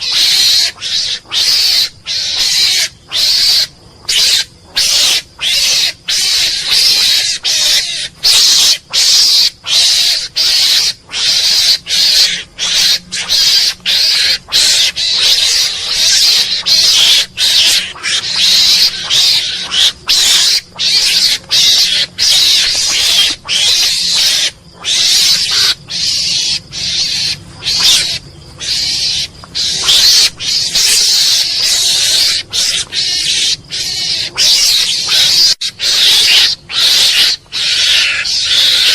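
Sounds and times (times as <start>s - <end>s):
mongoose harsh hissing calls: 0.0s - 38.9s.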